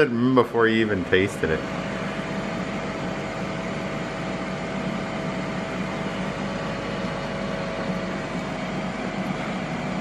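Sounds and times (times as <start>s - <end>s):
grill fan whoosh: 0.0s - 10.0s.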